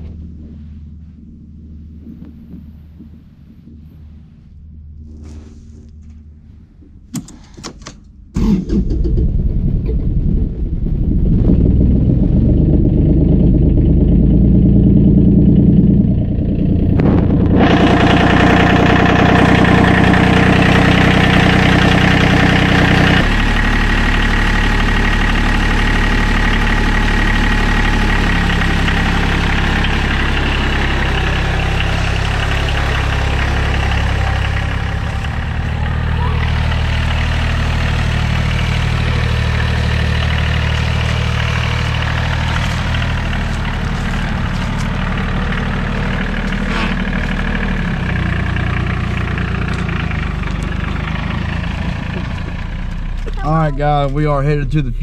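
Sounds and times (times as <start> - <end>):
tractor engine idling: 6.9 - 55.0.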